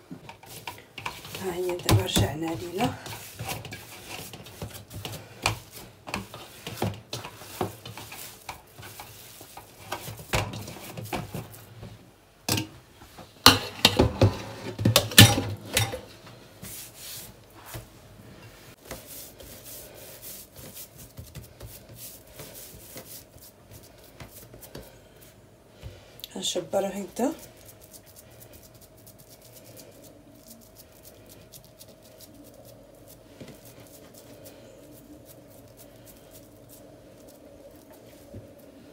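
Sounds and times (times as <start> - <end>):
dough rolled on countertop: 0.0 - 12.1, 13.0 - 38.9
dough rubbing in metal bowl: 0.3 - 11.8, 16.6 - 17.9, 18.5 - 25.4, 26.4 - 38.9.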